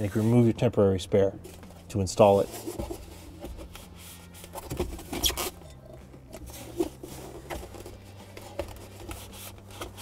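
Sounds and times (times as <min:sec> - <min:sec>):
tools scraping and rustling in foam: 0:00.0 - 0:00.7, 0:01.4 - 0:10.0.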